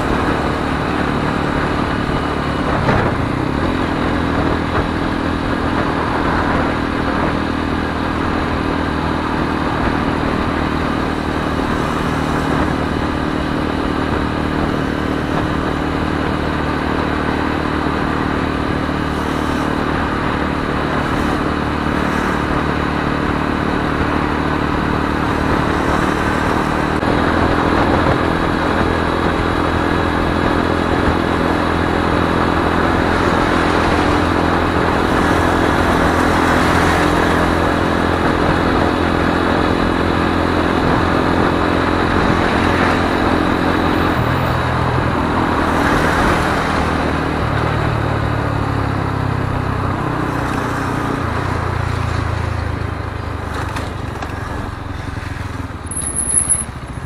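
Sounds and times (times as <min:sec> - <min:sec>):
wind noise: 0:00.0 - 0:50.3
motorcycle engine running: 0:00.0 - 0:57.0.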